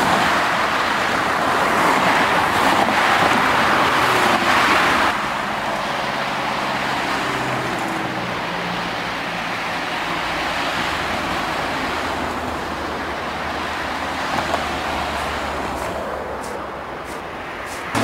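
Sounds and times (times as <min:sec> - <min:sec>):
traffic tyres and engines: 0:00.0 - 0:18.0.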